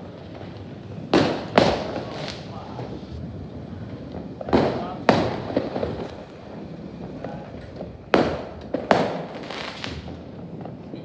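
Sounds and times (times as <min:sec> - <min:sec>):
fireworks bangs with echo: 0:00.0 - 0:11.0
small fireworks pops: 0:00.0 - 0:11.0.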